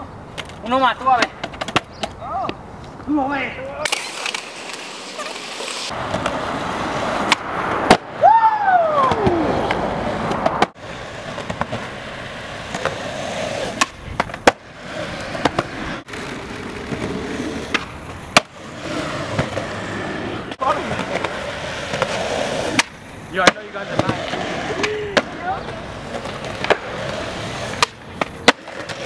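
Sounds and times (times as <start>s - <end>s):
skateboard wheels rolling on concrete: 0.0s - 29.0s
skateboards popping and landing: 0.2s - 29.0s.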